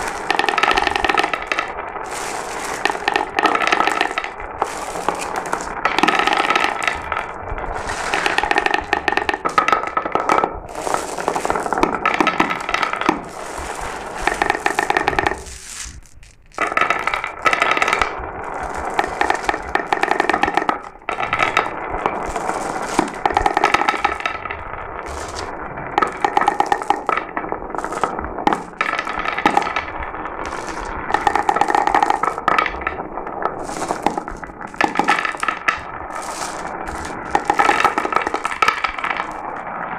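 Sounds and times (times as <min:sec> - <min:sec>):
glass marbles rattling down a run: 0:00.0 - 0:39.9
ringing hum of rolling marbles: 0:00.0 - 0:39.9.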